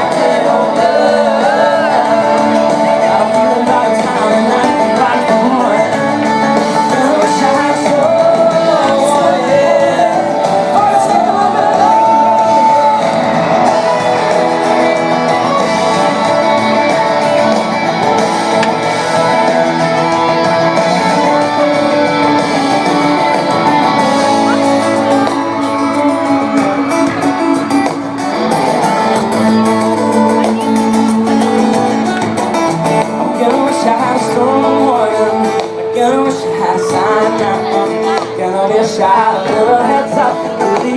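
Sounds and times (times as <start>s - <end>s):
lead singer: 0.0s - 40.9s
live country-pop band: 0.0s - 40.9s.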